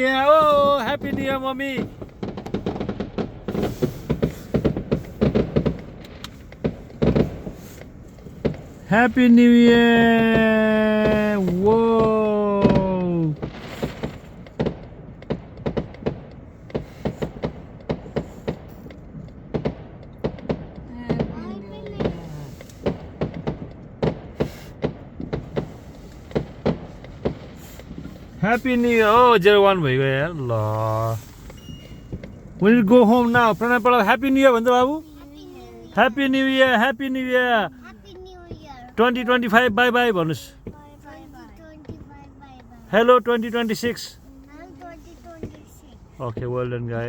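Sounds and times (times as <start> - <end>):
fireworks popping and banging: 0.0 - 47.0.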